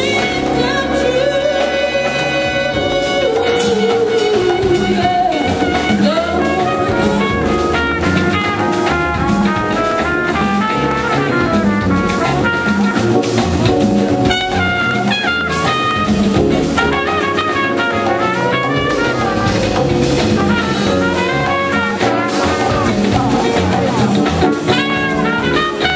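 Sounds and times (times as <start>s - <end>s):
congas: 0.0s - 25.9s
drum kit: 0.0s - 25.9s
horn melody: 0.0s - 25.9s.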